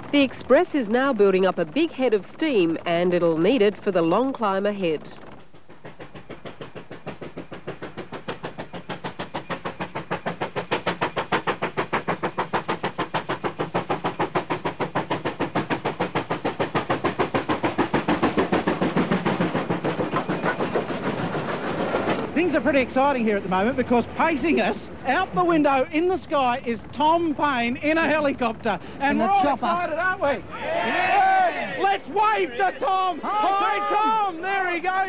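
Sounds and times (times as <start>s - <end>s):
steam locomotive exhaust beats: 0.0s - 35.0s.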